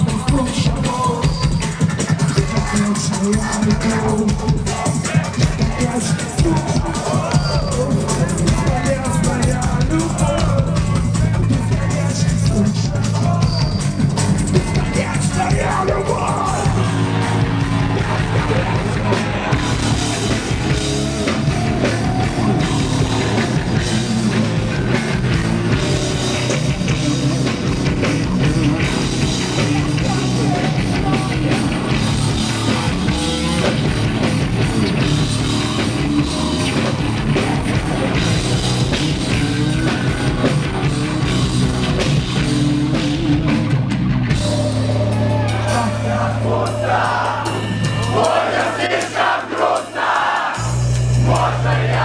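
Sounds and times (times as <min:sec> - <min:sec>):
bass guitar: 0:00.0 - 0:48.7, 0:50.6 - 0:52.0
distorted guitars: 0:00.0 - 0:52.0
drum kit: 0:00.0 - 0:52.0
vocals: 0:00.0 - 0:52.0.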